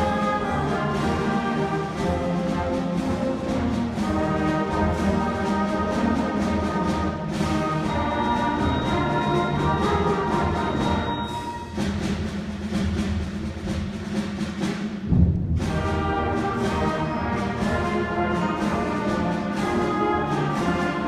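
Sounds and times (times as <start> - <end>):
concert band playing a march: 0.0 - 21.0.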